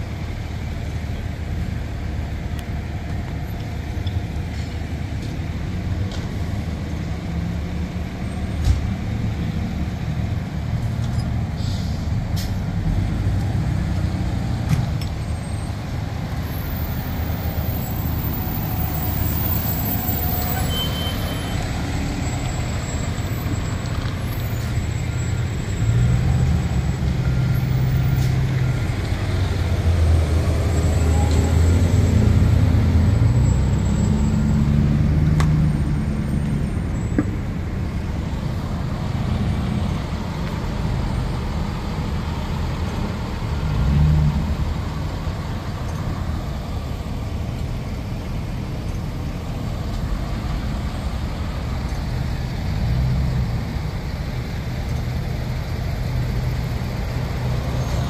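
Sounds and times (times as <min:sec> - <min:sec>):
fire truck engines idling: 0:00.0 - 0:34.6, 0:35.7 - 0:43.7, 0:44.5 - 0:57.9.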